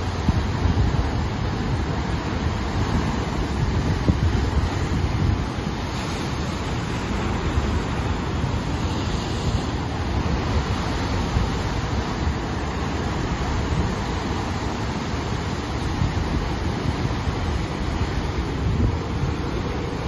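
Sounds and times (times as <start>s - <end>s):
surf breaking on rocks: 0.0s - 20.0s
wind rumbling on microphone: 0.0s - 20.0s.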